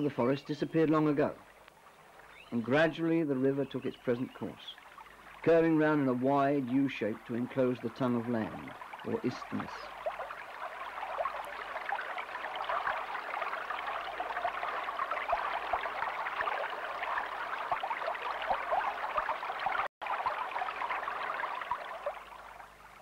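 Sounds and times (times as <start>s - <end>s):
river water lapping: 0.7s - 23.0s.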